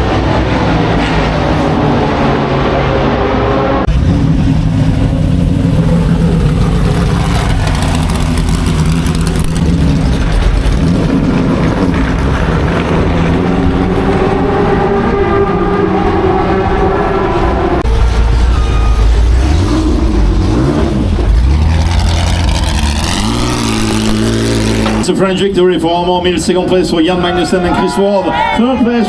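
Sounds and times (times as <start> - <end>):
racing car engines revving: 0.0 - 29.0.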